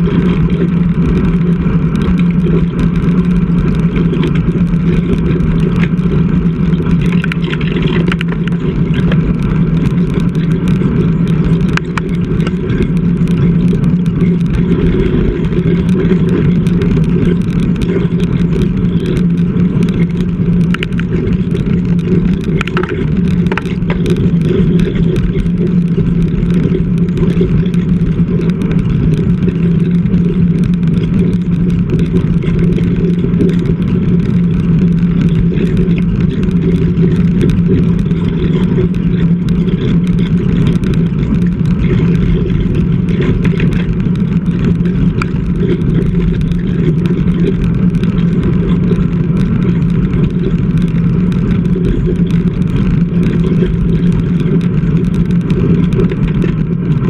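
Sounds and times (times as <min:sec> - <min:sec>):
bike tyre hum on tarmac: 0:00.0 - 0:57.0
wind rush on microphone: 0:00.0 - 0:57.0.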